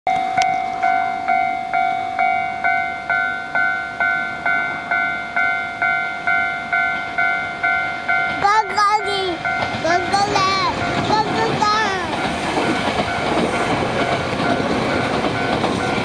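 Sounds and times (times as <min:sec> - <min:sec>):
level-crossing warning bell: 0:00.1 - 0:16.0.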